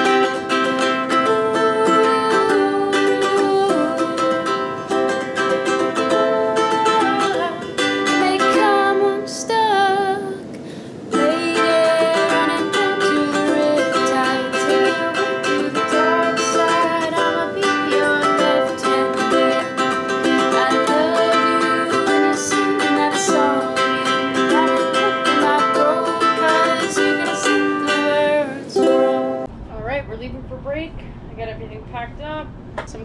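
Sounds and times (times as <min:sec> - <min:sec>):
ukulele strumming chords: 0:00.0 - 0:10.5, 0:11.1 - 0:29.5
woman singing: 0:00.0 - 0:29.5.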